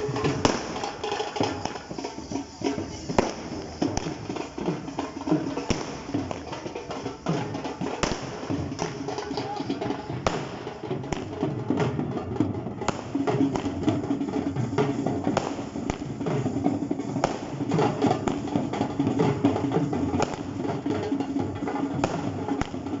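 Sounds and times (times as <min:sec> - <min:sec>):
fireworks cracking and popping: 0:00.0 - 0:23.0
music with drums: 0:00.0 - 0:23.0.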